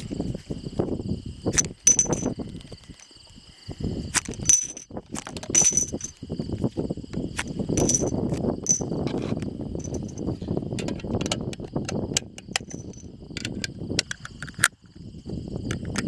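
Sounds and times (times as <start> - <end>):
insects buzzing: 0.0 - 15.9.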